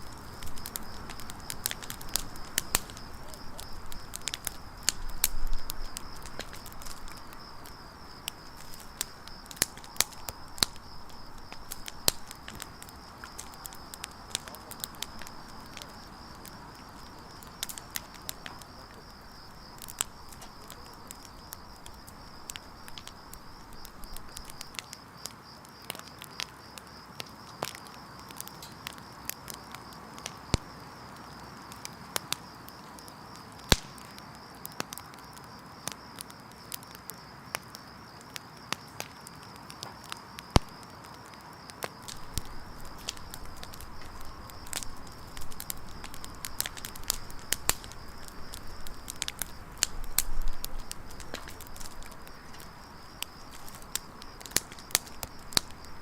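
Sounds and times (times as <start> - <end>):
campfire logs crackling and popping: 0.0 - 56.0.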